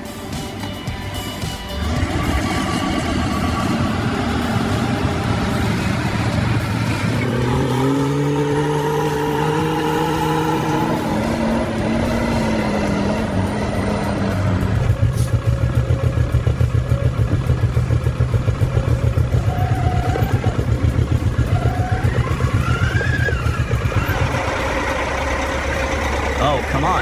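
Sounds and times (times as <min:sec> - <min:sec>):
heavy truck engine throbbing: 0:00.0 - 0:27.0.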